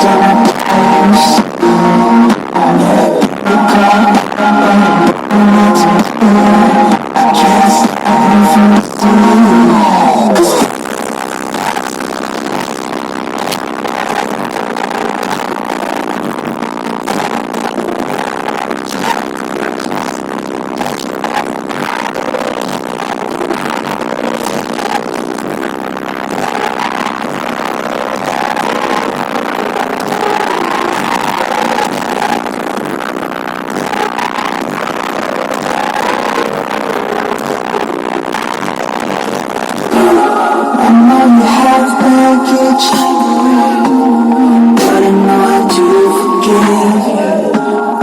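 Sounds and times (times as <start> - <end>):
distorted subwoofer bass: 0.0 - 48.0.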